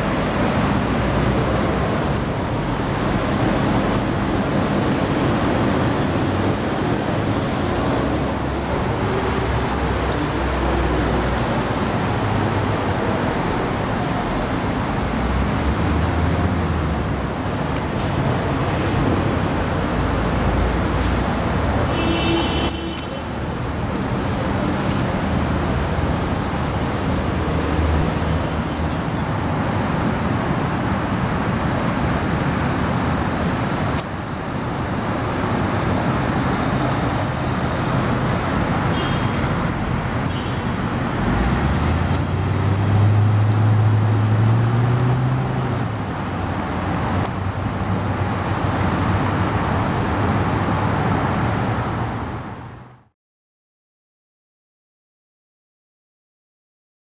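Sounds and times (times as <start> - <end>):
traffic and street noise: 0.0 - 53.2.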